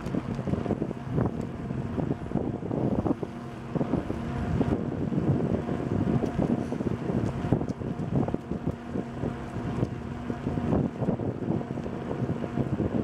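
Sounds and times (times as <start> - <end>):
bicycle rolling on paved trail: 0.0 - 13.0
wind buffeting microphone: 0.0 - 13.0.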